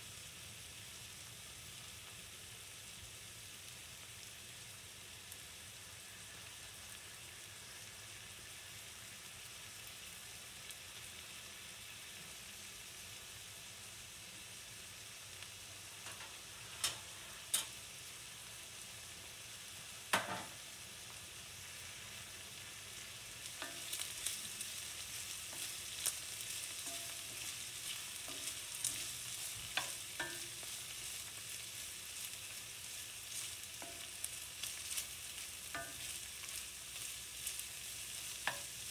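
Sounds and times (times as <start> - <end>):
onions sizzling in oil: 0.0 - 38.9.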